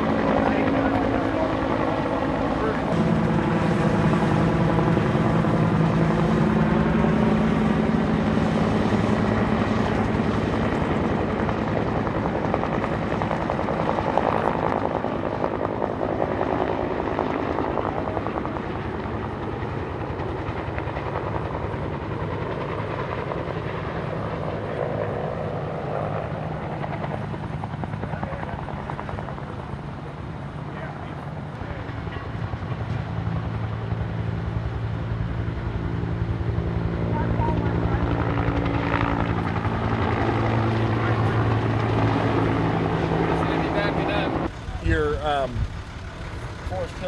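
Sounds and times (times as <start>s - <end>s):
helicopter rotor chop: 0.0s - 47.0s.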